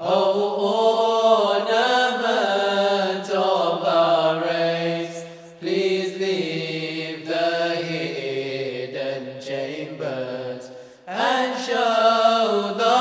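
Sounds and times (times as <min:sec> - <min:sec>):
men singing a slow chant: 0:00.0 - 0:13.0.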